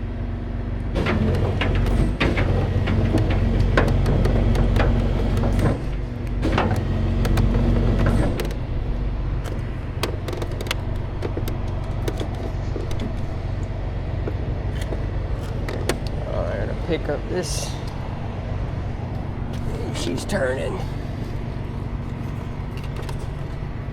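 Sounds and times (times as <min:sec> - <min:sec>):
tow truck engine running: 0:00.0 - 0:23.9
metal clicks and creaks: 0:01.0 - 0:23.9.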